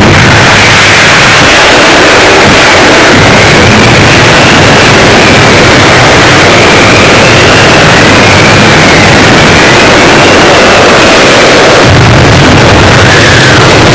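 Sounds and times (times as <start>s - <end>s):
loud distorted noise: 0.0s - 13.9s.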